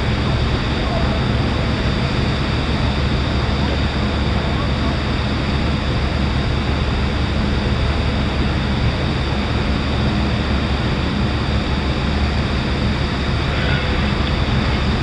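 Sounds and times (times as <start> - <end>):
ferry diesel engines droning: 0.0 - 15.0.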